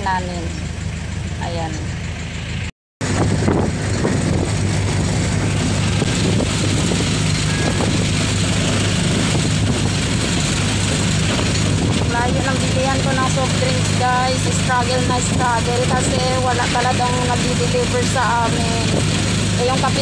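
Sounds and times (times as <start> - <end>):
vehicle engine hum: 0.0 - 20.0
wind and road noise: 0.0 - 20.0.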